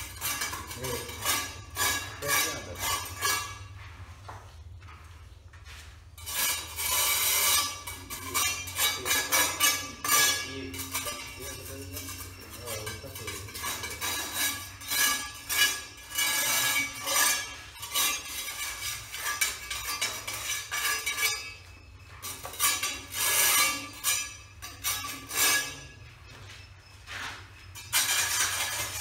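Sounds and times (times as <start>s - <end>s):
trowel scraping concrete floor: 0.0s - 4.6s, 5.5s - 29.0s.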